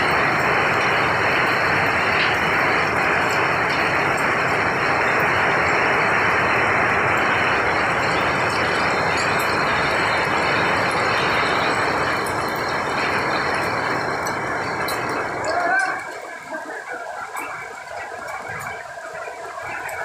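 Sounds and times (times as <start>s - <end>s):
rain and hail on tin roof: 0.0s - 20.0s.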